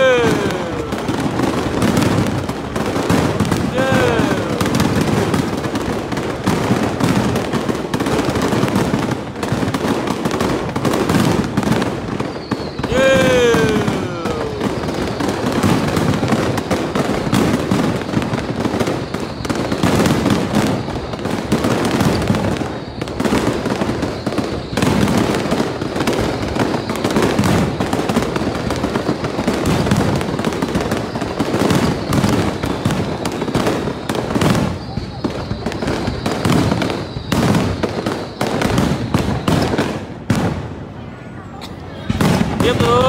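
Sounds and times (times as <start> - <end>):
fireworks bursting: 0.0 - 41.1, 41.7 - 43.0.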